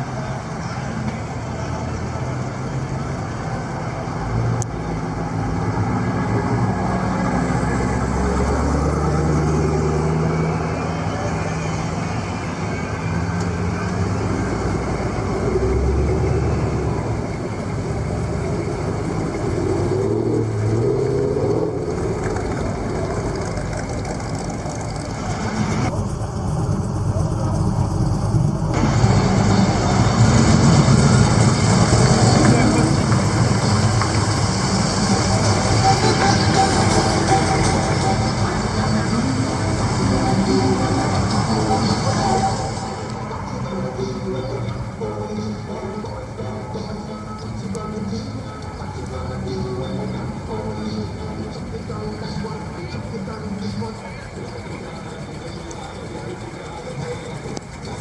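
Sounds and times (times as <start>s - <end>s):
car engines cruising past: 0.0s - 58.0s
people's voices: 0.0s - 58.0s.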